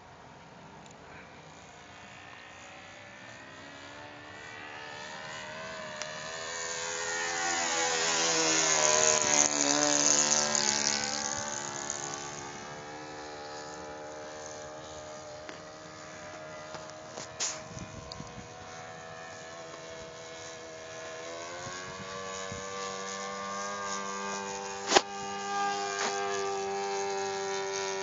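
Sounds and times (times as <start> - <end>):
model plane engine at high revs: 1.0 - 28.0.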